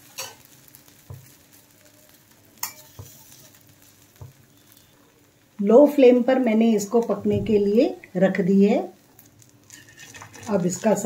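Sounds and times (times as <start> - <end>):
flatbread sizzling on griddle: 0.0 - 11.0.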